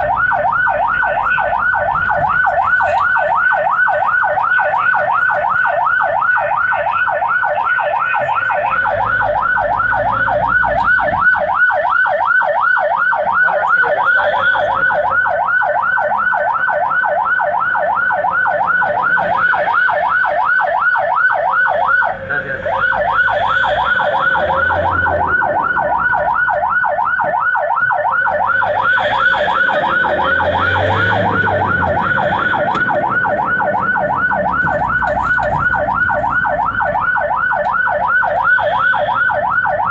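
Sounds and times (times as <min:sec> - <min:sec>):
siren yelping: 0:00.0 - 0:39.9.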